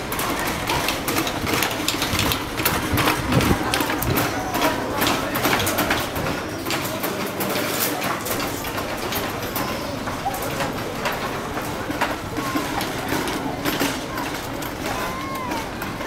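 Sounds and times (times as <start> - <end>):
cage cart rattling on paving: 0.0 - 16.0.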